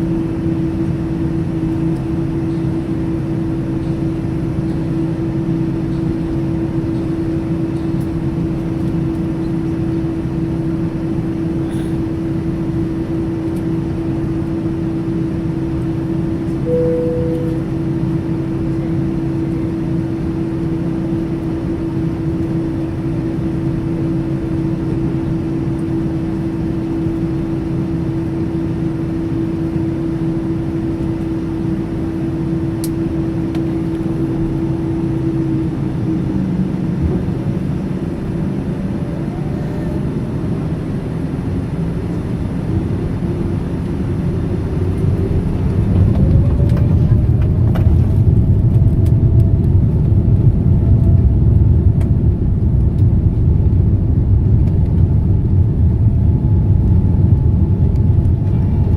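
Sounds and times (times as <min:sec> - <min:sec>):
jet engine rumble: 0:00.0 - 0:58.9
rising engine whine: 0:00.0 - 0:58.9
steady hum: 0:00.0 - 0:58.9.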